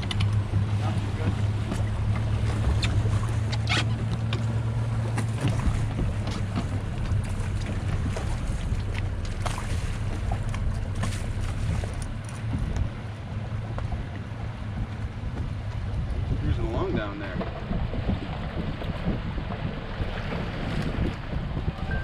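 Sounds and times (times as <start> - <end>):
boat engine humming: 0.0 - 22.0
water splashes: 0.0 - 22.0
wind: 0.0 - 22.0.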